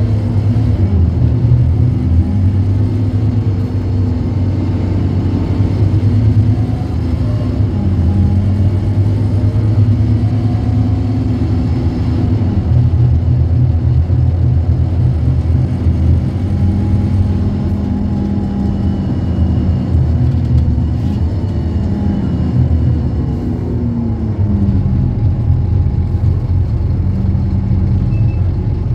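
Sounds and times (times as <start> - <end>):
bus diesel engine running: 0.0 - 28.9.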